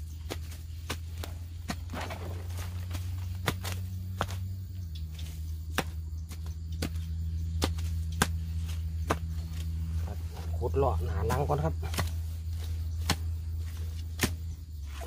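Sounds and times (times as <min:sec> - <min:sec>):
digging tool chopping soil: 0:00.0 - 0:09.9, 0:10.7 - 0:15.0
steady low hum: 0:00.0 - 0:15.0.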